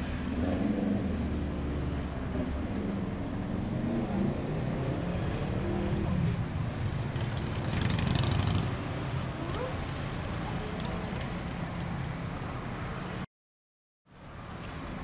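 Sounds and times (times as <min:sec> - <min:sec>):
cars and motorbikes passing: 0:00.0 - 0:13.3.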